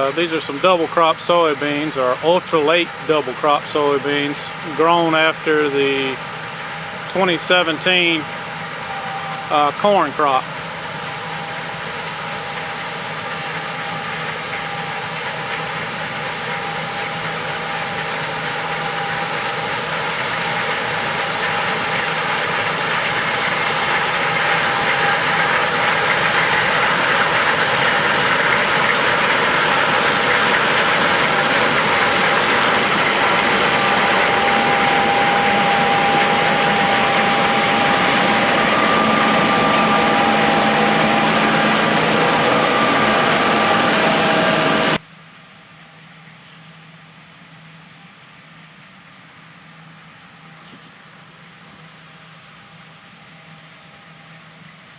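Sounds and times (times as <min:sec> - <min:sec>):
combine harvester drone: 0:00.0 - 0:45.0.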